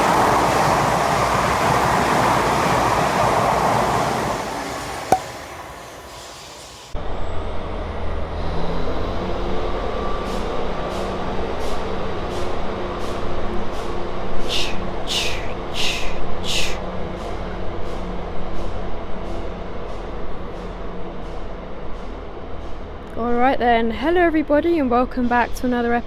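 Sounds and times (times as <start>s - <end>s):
passenger train passing: 0.0s - 26.0s
train rumble and hum: 0.0s - 26.0s.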